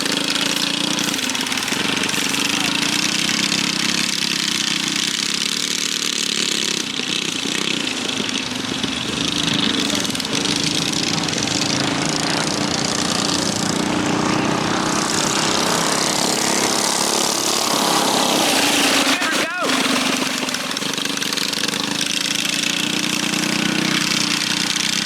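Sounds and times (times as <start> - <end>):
mini bike engines racing: 0.0 - 25.0.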